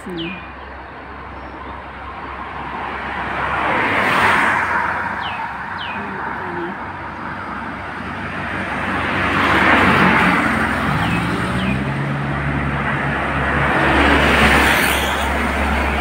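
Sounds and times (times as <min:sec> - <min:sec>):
bus engine rumbling: 0:00.0 - 0:16.0
vehicles swishing past: 0:00.0 - 0:16.0.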